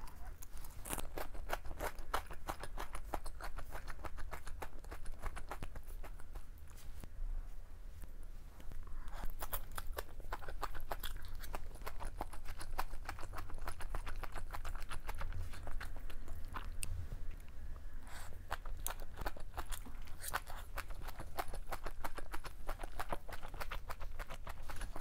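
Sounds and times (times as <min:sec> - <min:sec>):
chewing with crisp crunching: 0:00.0 - 0:07.1, 0:08.0 - 0:25.0.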